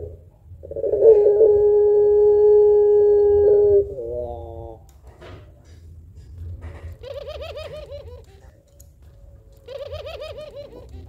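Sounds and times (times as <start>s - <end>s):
dove cooing: 0.0s - 4.9s, 6.6s - 11.0s.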